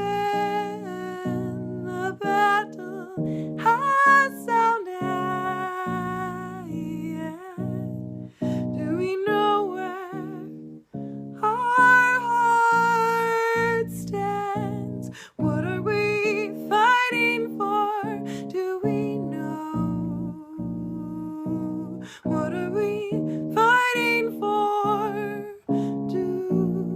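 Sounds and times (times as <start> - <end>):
picked guitar: 0.0 - 26.9
woman singing wordless notes: 0.0 - 26.9.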